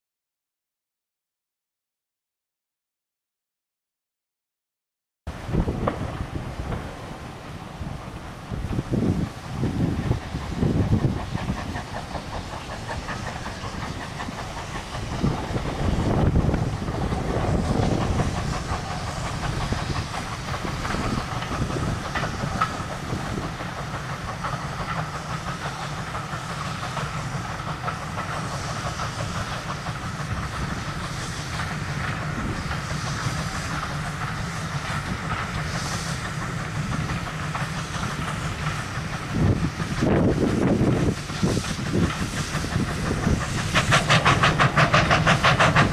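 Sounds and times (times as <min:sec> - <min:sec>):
steam train passing: 0:05.3 - 0:45.9
steam hissing from safety valve: 0:05.4 - 0:45.9.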